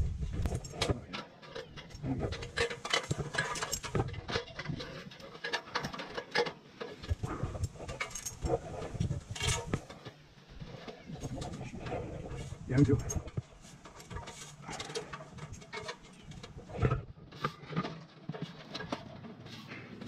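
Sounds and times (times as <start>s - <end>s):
boots and hands on metal ladder rungs: 0.0s - 20.0s.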